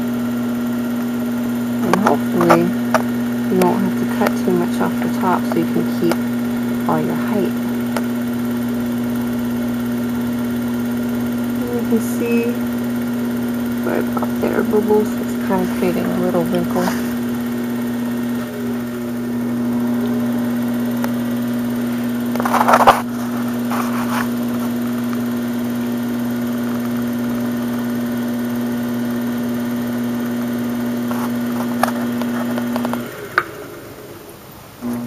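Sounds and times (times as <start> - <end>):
pottery wheel motor humming: 0.0 - 35.0.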